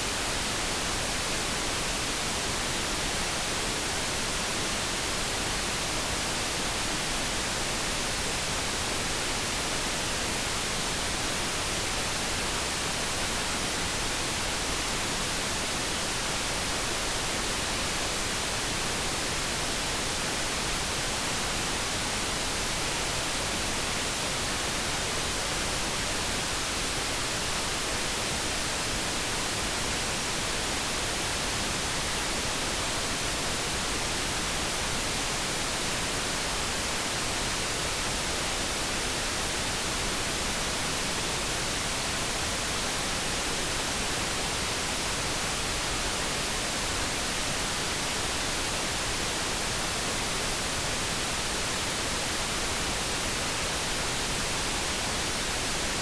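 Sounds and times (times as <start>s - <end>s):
even steady hiss: 0.0s - 56.0s.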